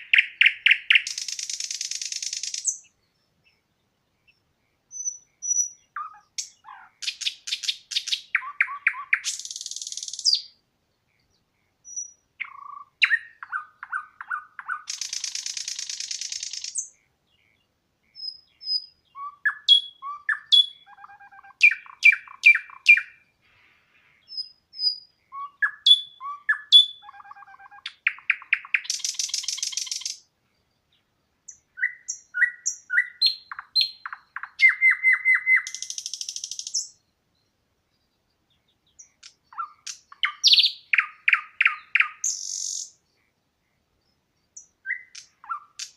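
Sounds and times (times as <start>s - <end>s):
songbird singing with buzzy trills: 0.0s - 45.9s.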